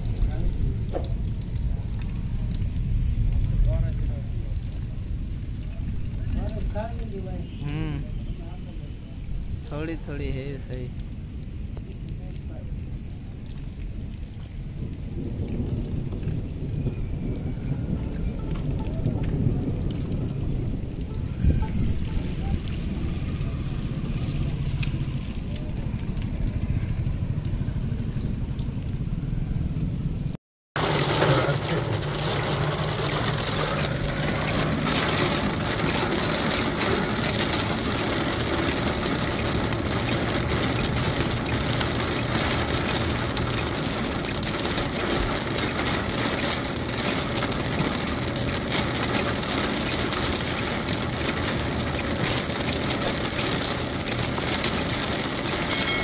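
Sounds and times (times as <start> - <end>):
low outdoor rumble: 0.0 - 9.7, 10.4 - 56.0
heavy rain on car roof: 0.0 - 56.0
tyre noise on wet road: 0.0 - 56.0.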